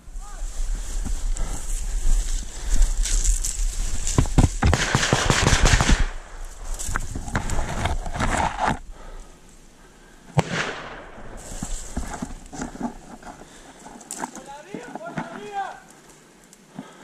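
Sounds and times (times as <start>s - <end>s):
footsteps through dry brush: 0.0s - 17.0s
branch cracking: 0.8s - 9.1s, 10.0s - 17.0s.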